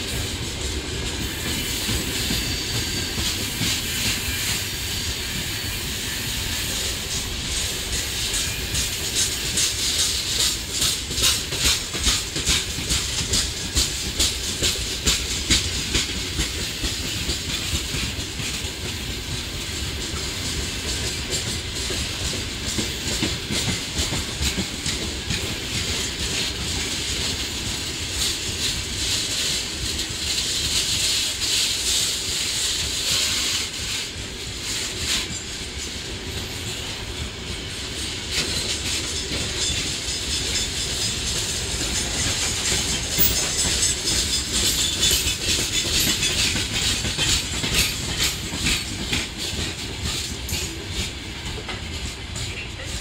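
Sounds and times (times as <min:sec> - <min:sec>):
train low rumble: 0:00.0 - 0:53.0
train wheels clattering over joints: 0:00.0 - 0:53.0
wheel on rail squeal: 0:00.0 - 0:53.0.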